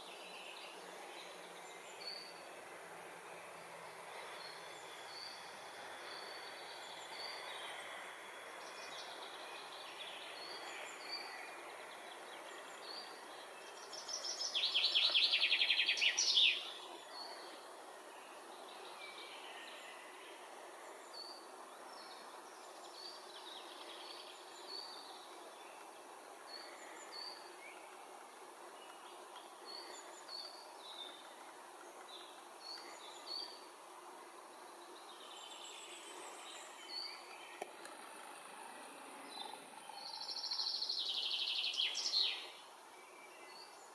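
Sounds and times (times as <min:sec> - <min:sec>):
songbird singing fast notes: 0:03.2 - 0:43.9.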